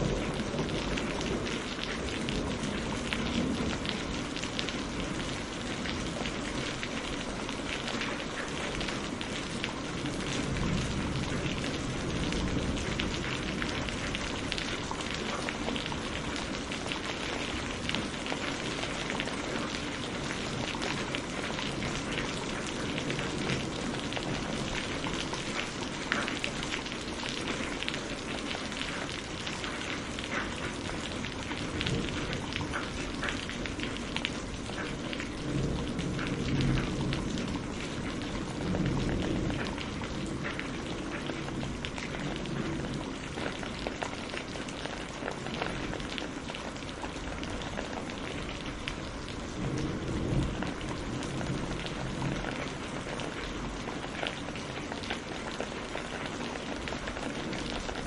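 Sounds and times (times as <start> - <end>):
steady rain pattering: 0.0 - 58.0.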